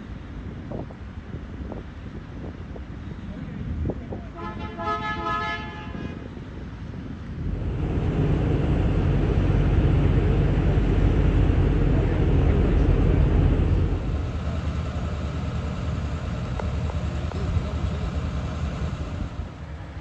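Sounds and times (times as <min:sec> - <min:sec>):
heavy vehicle rumble: 0:00.0 - 0:20.0.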